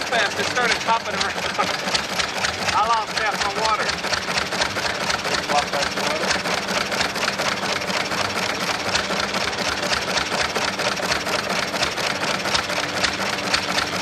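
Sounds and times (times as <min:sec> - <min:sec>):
old engine clattering: 0:00.0 - 0:14.0.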